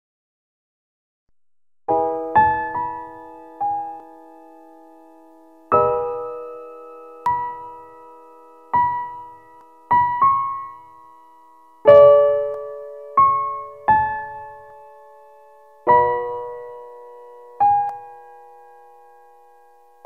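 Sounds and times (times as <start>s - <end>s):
slow piano music: 1.9s - 20.0s.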